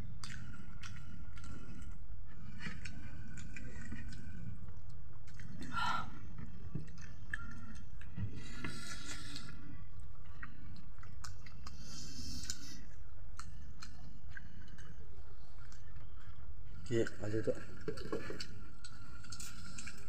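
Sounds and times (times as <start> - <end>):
people chewing food: 0.0 - 20.0
steady low hum: 0.0 - 20.0.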